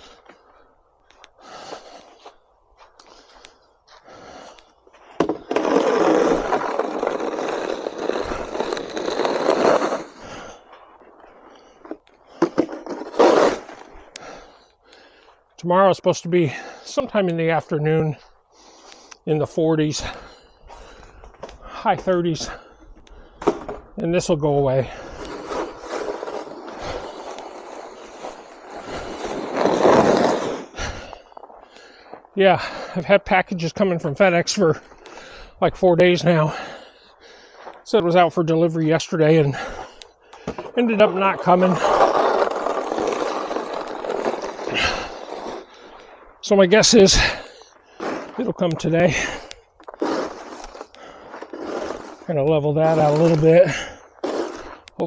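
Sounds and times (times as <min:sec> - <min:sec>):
snow shovel scraping pavement: 0:04.1 - 0:15.2, 0:16.5 - 0:21.1, 0:23.4 - 0:55.0.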